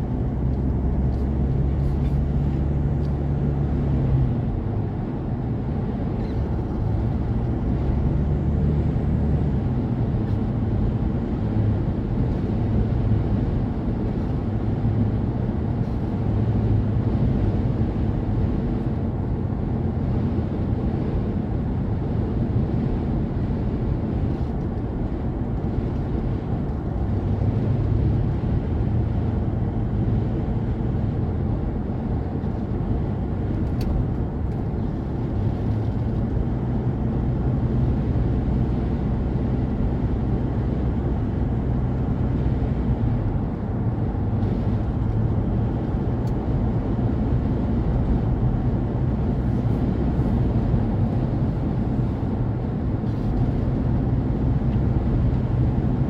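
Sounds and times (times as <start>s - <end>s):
car engine: 0.0s - 56.0s
road noise: 0.0s - 56.0s.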